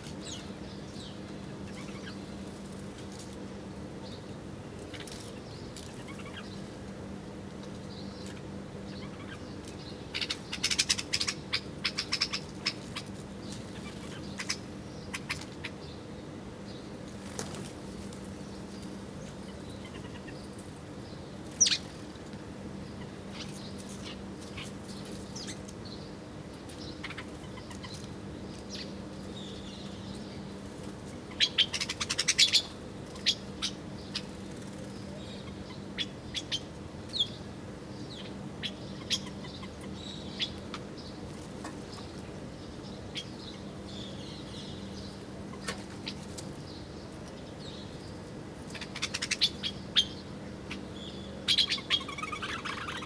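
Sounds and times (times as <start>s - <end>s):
small birds chirping rapidly: 0.0s - 3.3s, 4.0s - 6.8s, 7.8s - 53.0s.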